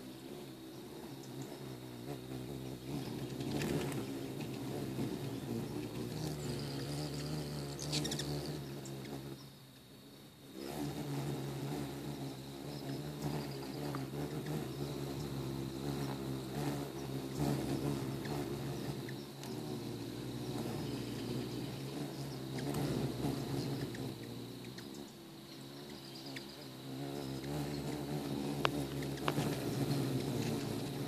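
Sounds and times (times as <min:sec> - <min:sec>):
hummingbird wings buzzing: 0:00.0 - 0:31.0.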